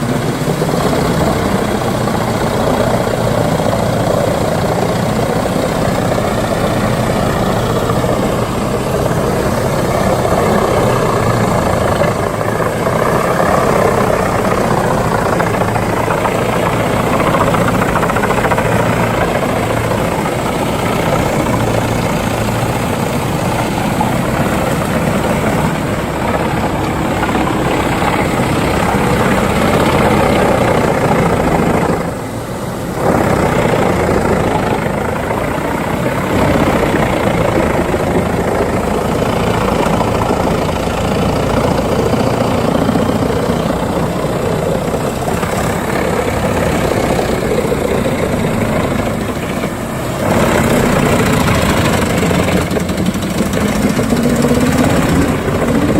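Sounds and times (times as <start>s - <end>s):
wood chipper machines running: 0.0s - 55.9s.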